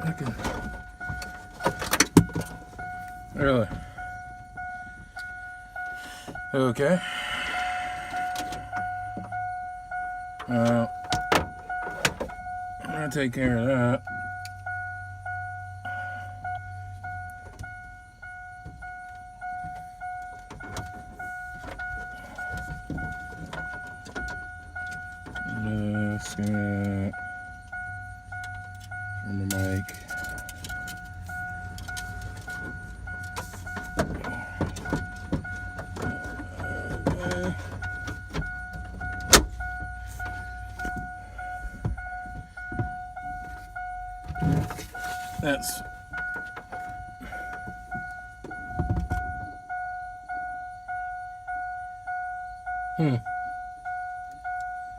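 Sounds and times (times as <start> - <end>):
truck warning chime dinging: 0.0 - 54.9.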